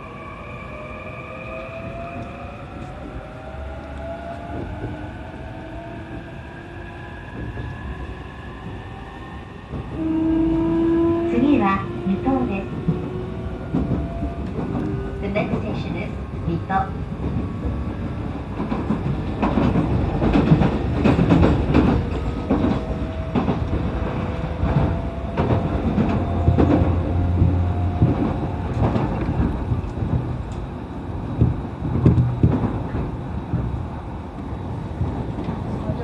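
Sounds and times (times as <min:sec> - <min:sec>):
train rumble inside carriage: 0:00.0 - 0:36.0.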